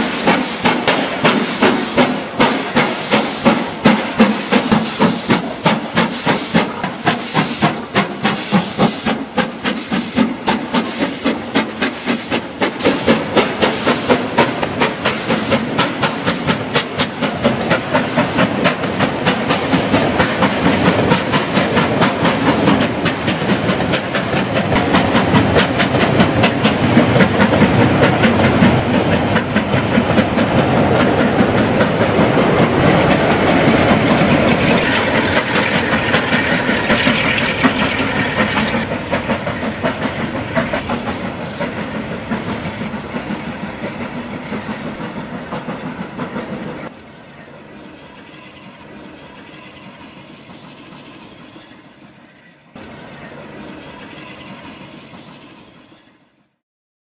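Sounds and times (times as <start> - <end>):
steam locomotive chuffing: 0.0 - 56.5.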